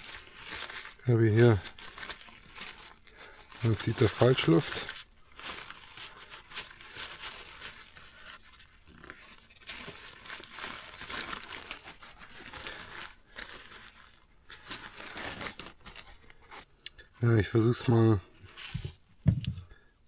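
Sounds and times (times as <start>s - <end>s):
hands rustling and crinkling material: 0.0s - 16.7s.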